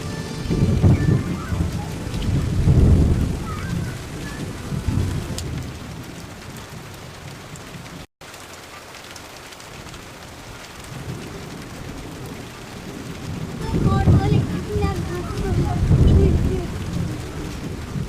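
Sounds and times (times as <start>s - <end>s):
low thunder rumble: 0.0s - 8.0s, 10.9s - 18.0s
steady rain: 0.0s - 18.0s.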